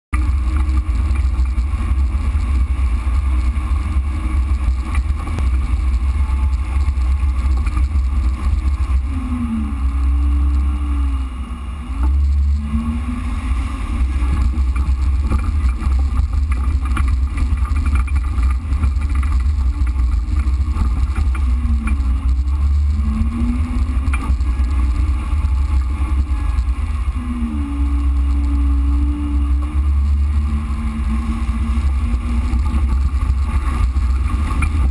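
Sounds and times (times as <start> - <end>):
engine rumbling with throttle revs: 0.0 - 34.9.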